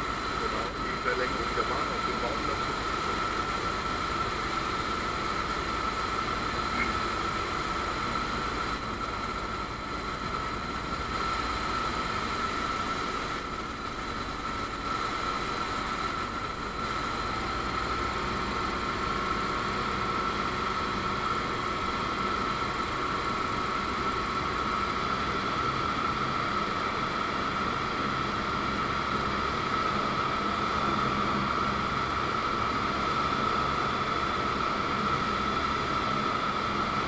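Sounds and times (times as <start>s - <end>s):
aircraft engine and propeller drone: 0.0s - 37.0s.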